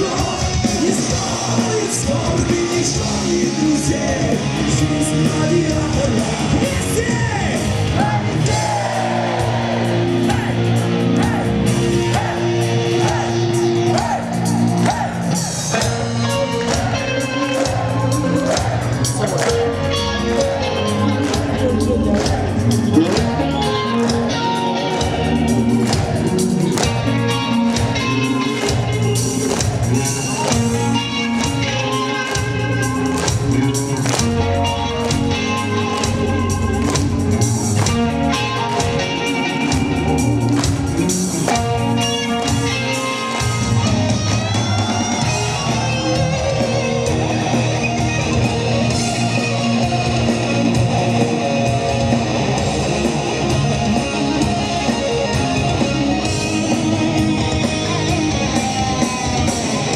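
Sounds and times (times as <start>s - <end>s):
bent electric guitar notes: 0.0s - 59.9s
heavy metal band playing live: 0.0s - 59.9s.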